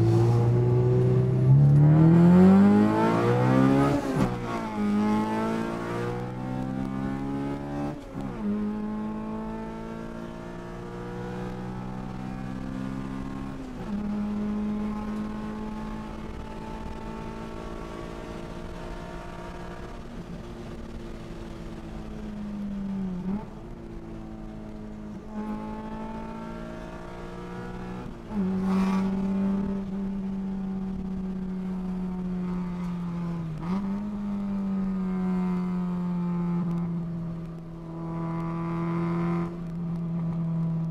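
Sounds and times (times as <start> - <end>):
car engine: 0.0 - 40.9
road noise inside car: 0.0 - 40.9.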